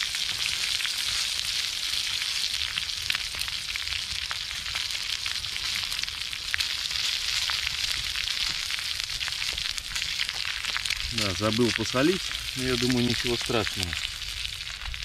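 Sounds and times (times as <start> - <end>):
eggs sizzling in a pan: 0.0 - 15.0.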